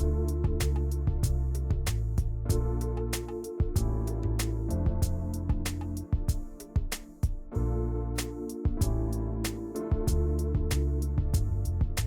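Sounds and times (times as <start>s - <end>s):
deep bass: 0.0s - 6.3s, 7.5s - 12.0s
light percussion: 0.0s - 7.6s, 8.2s - 12.0s
keyboard chords: 0.0s - 12.0s.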